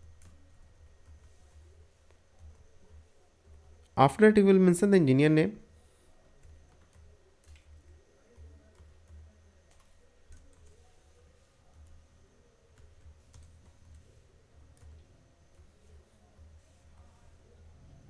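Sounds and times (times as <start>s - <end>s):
computer keyboard typing: 0.0s - 4.0s, 5.8s - 17.2s.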